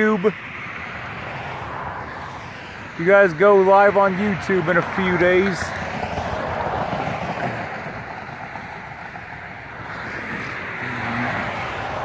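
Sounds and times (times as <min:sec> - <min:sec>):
road traffic tyre rush: 0:00.0 - 0:12.0.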